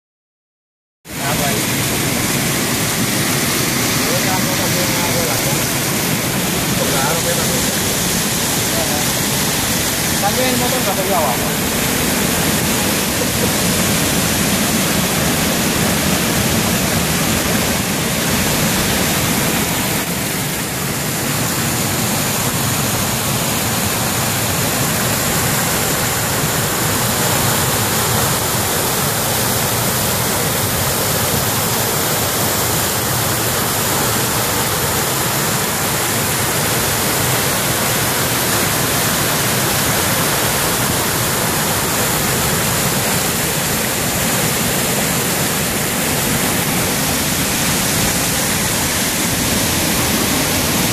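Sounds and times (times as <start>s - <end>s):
water rushing over a spillway: 1.1s - 50.9s.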